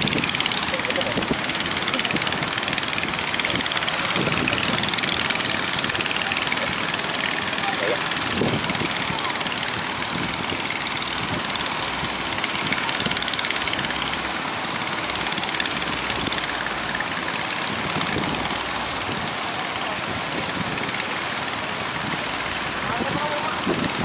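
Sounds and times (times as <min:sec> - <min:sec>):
boat engine running: 0:00.0 - 0:24.0
rush of water: 0:00.0 - 0:24.0
wind: 0:00.0 - 0:24.0.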